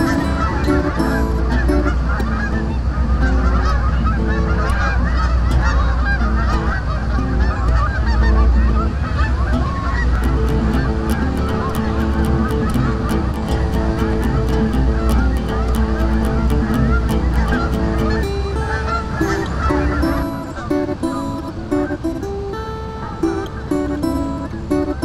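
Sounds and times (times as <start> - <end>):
geese honking: 0.0 - 25.0.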